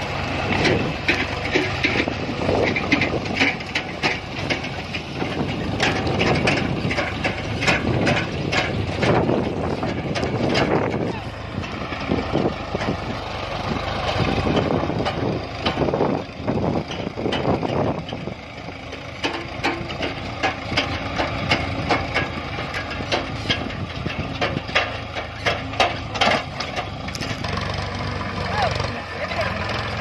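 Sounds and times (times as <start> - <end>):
diesel engine idling: 0.0 - 30.0
sharp knocks and clatter: 0.3 - 28.4.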